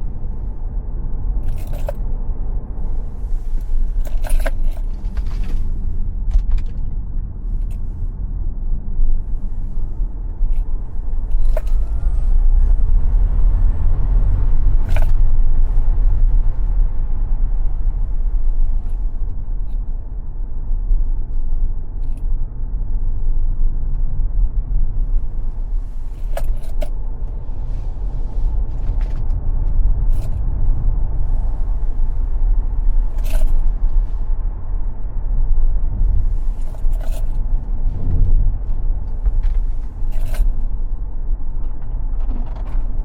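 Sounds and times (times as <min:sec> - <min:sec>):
tyre and road noise: 0:00.0 - 0:43.0.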